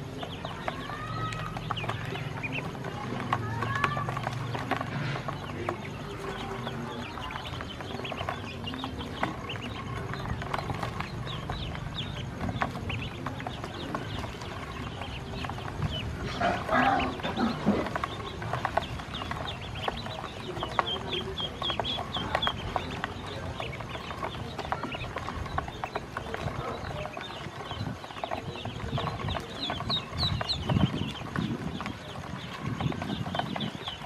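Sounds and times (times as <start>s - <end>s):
ducklings peeping: 0.0s - 34.0s.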